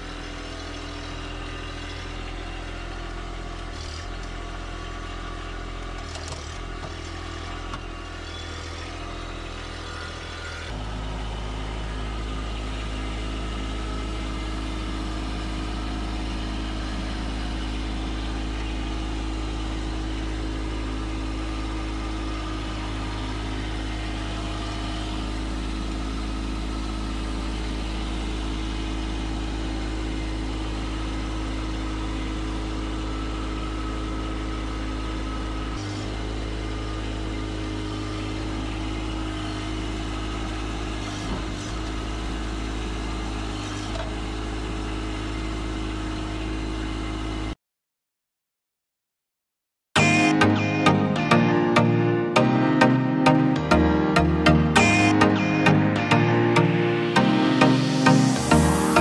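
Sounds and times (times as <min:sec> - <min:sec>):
machine engine running: 0:00.0 - 0:47.4, 0:50.0 - 0:59.0.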